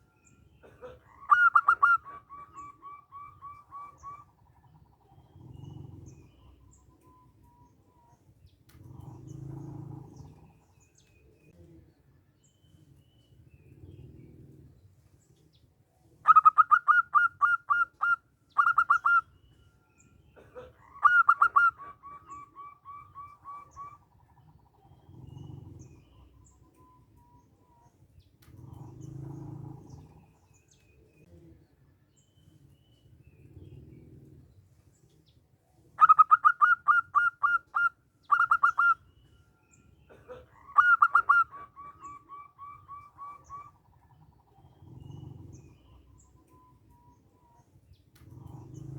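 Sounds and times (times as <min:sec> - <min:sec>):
dove cooing: 0:00.0 - 0:11.8, 0:16.2 - 0:19.5, 0:20.3 - 0:31.8, 0:33.2 - 0:48.9.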